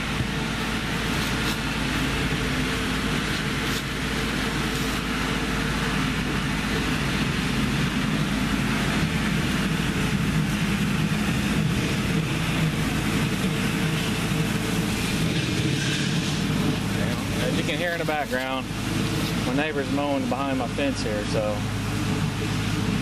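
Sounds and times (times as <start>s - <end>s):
distant lawn mower engine: 0.0s - 23.0s.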